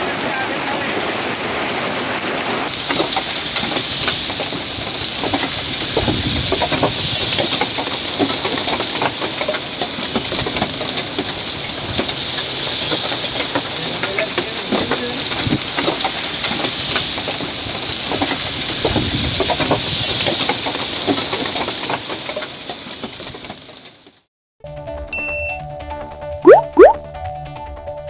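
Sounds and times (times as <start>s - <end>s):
downpour hiss: 0.0s - 23.9s
hailstones ticking on hard surfaces: 0.0s - 24.1s.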